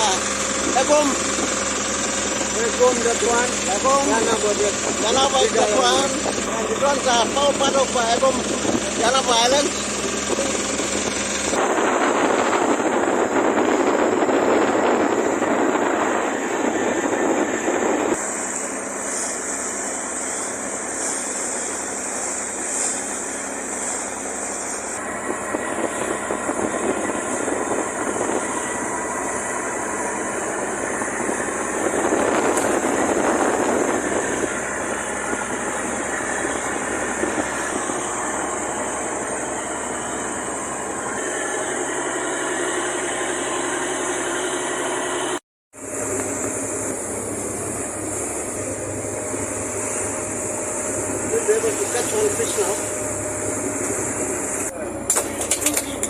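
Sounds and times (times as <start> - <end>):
rushing wind and water: 0.0 - 54.7
boat engine running: 0.0 - 56.0.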